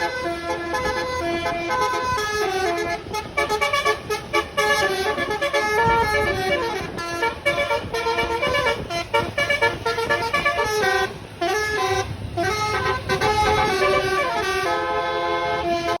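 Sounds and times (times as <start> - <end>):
bus horn playing a melody: 0.0 - 16.0.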